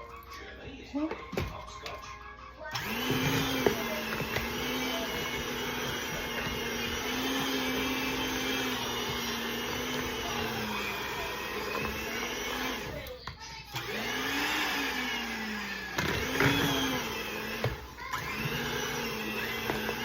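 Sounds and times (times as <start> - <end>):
electric mixer beating dough: 0.0 - 20.0.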